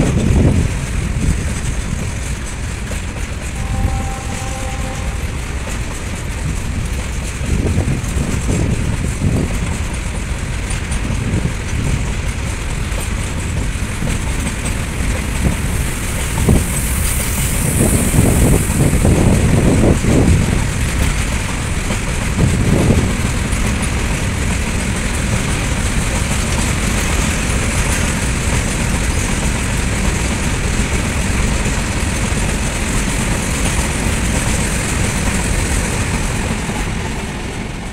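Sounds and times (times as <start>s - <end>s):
freight train wheels rumbling: 0.0s - 37.9s.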